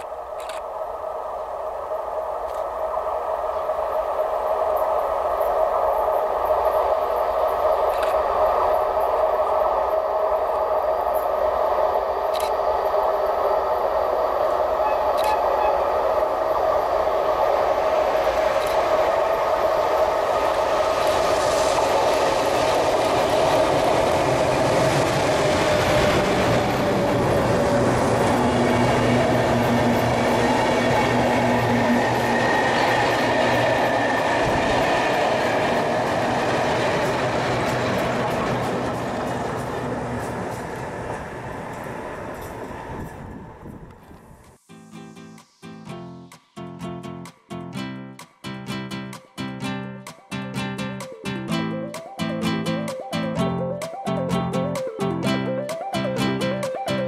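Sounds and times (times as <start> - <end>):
train passing: 0.0 - 57.0.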